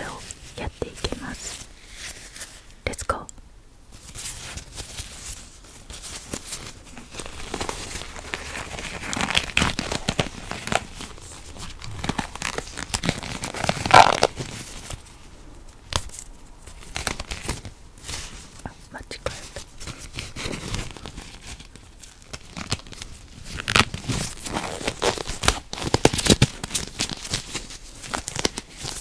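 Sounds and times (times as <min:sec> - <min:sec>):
rubber gloves crinkling: 0:00.0 - 0:02.8, 0:03.9 - 0:18.7, 0:19.3 - 0:29.0.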